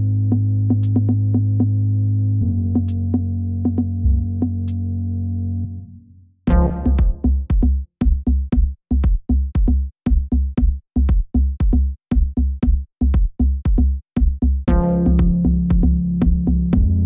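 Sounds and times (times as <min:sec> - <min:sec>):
electronic music with drum-machine beat: 0:00.3 - 0:01.8, 0:02.6 - 0:04.9, 0:06.5 - 0:17.0.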